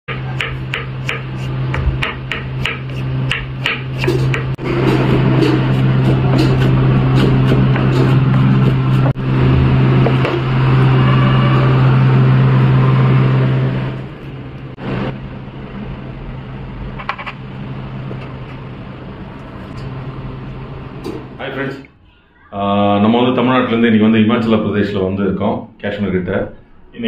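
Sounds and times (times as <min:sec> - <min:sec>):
loud steady hum: 0:00.1 - 0:22.0.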